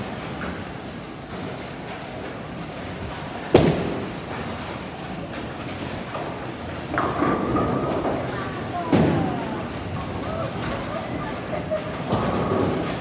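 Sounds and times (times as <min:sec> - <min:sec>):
bowling ball rolling rumble: 0:00.2 - 0:13.0.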